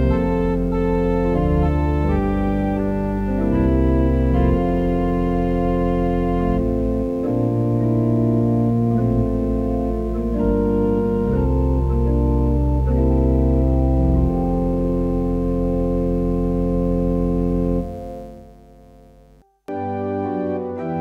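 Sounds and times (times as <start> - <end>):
organ playing a hymn tune: 0.0 - 18.6, 19.7 - 21.0.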